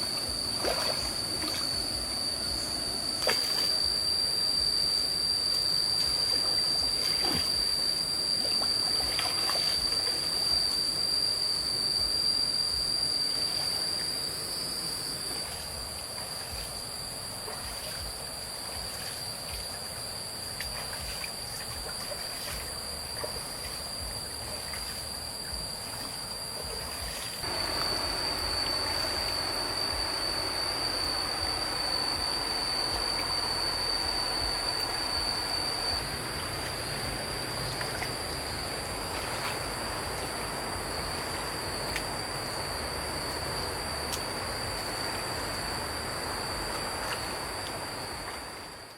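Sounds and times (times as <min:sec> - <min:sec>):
insects droning: 0:00.0 - 0:48.9
stream water trickling: 0:00.0 - 0:48.9.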